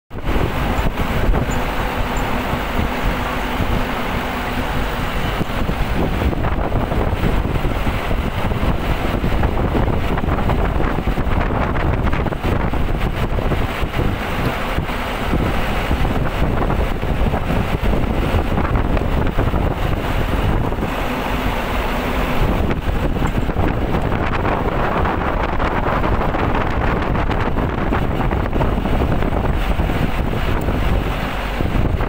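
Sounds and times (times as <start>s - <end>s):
vehicle tyres and engine rumble: 0.1s - 32.0s
wind buffeting microphone: 0.1s - 32.0s.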